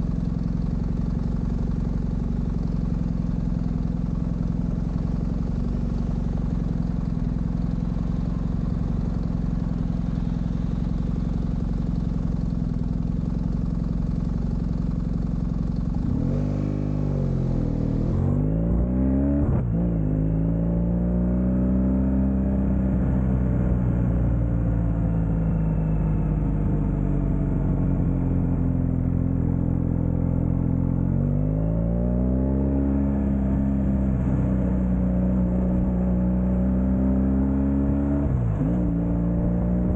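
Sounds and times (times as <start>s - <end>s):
motorcycle engine running: 0.0s - 18.8s, 19.4s - 31.9s, 32.5s - 39.9s.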